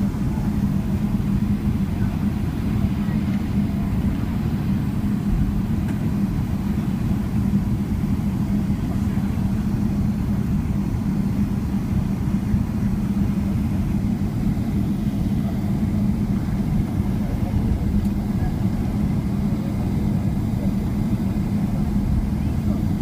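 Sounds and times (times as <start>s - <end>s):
airplane engines rumbling in cabin: 0.0s - 23.0s
cabin airflow hum: 0.0s - 23.0s.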